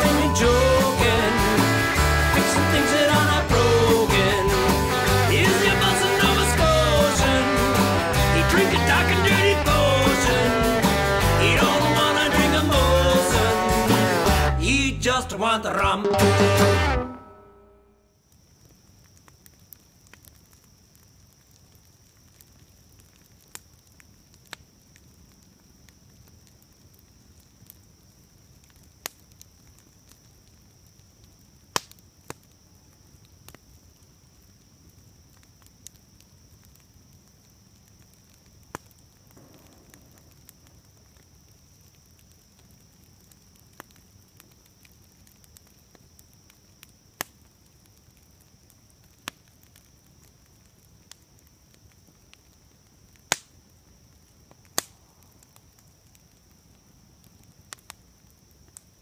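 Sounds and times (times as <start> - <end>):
campfire crackling and popping: 0.0 - 17.1, 18.1 - 59.0.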